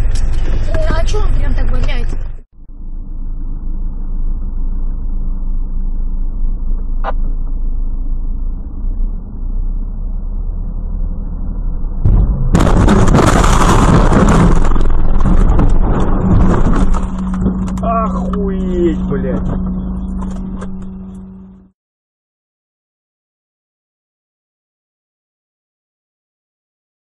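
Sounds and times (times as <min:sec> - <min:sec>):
car engine and road noise: 0:00.0 - 0:21.7.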